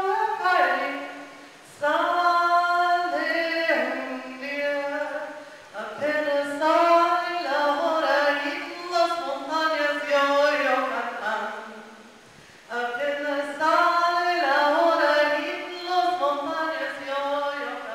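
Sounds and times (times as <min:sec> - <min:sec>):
woman chanting unaccompanied: 0:00.0 - 0:12.1, 0:12.7 - 0:17.9.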